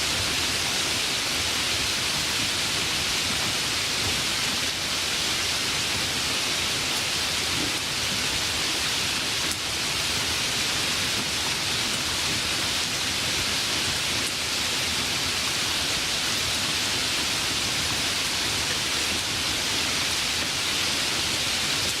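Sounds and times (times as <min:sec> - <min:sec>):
light rain hiss: 0:00.0 - 0:22.0.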